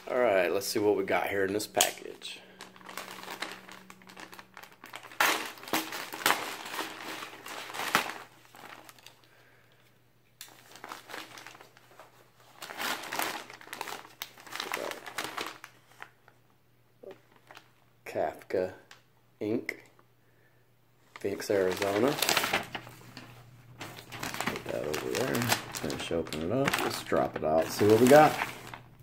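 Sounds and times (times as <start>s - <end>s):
packaging crinkling and rustling: 0.0s - 16.4s, 17.0s - 17.8s, 21.1s - 29.0s.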